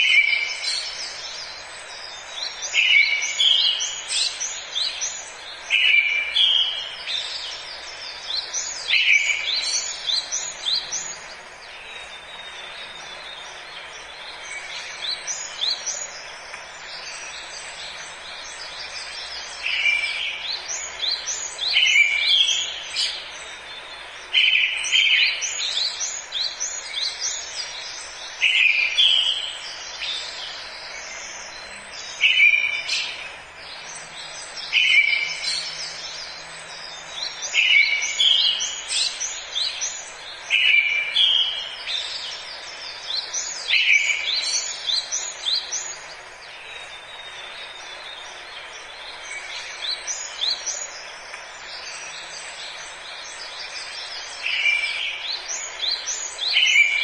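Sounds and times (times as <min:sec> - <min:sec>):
songbirds singing: 0:00.0 - 0:57.0
steady background hiss: 0:00.0 - 0:57.0.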